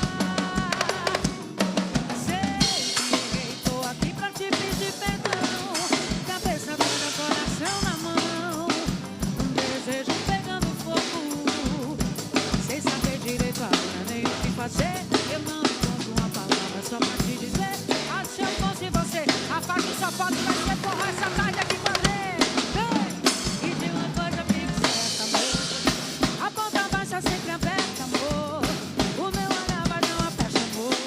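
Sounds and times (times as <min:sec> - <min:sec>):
bass drum beat: 0:00.0 - 0:31.0.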